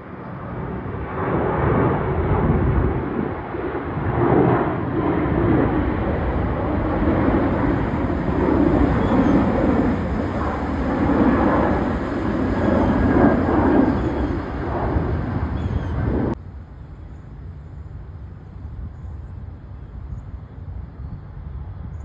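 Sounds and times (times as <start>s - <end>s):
jet airliner engines rushing: 0.0s - 22.0s.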